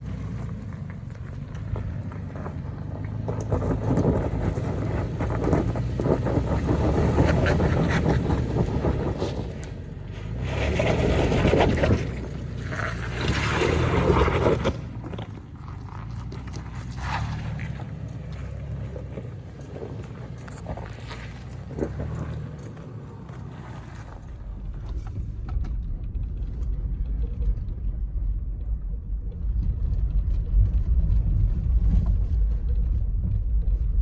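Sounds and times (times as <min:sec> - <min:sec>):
tires crunching and rattling on rocks: 0:00.0 - 0:34.0
vehicle engine rumble: 0:00.0 - 0:34.0.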